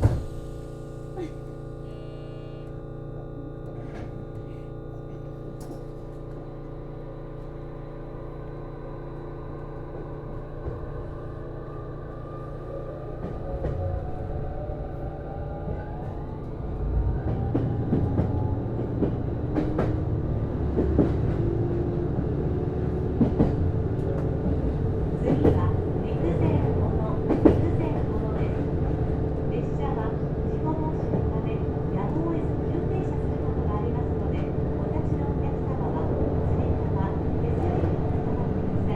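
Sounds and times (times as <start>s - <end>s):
low train running rumble: 0.0s - 38.9s
railcar traction whine: 0.0s - 38.9s.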